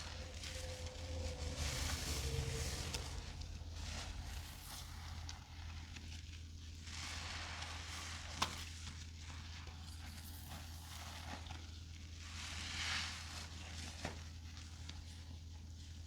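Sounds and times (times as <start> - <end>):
steady low hum: 0.0 - 13.5
wet sponges squishing: 0.0 - 16.0.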